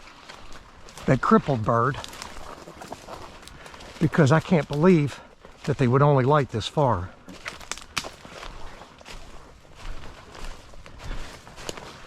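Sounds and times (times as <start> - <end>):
footsteps: 0.0 - 12.0
rustling vegetation: 0.0 - 12.0.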